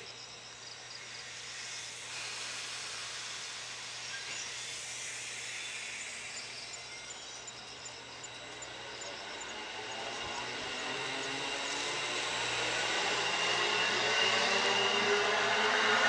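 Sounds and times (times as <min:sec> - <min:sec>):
faint insects chirping: 0:00.0 - 0:15.1
electric train hissing: 0:00.0 - 0:16.0.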